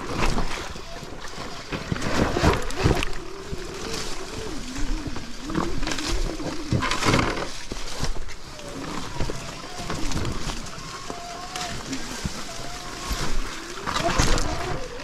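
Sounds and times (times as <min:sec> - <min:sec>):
tyre and ground noise: 0:00.0 - 0:15.0.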